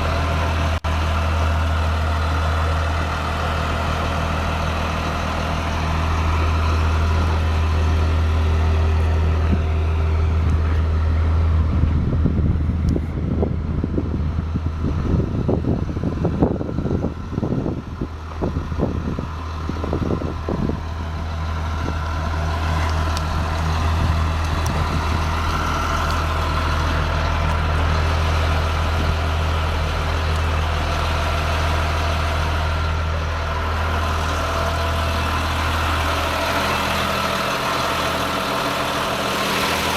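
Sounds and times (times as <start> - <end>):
diesel bus engine idling: 0.0 - 39.9.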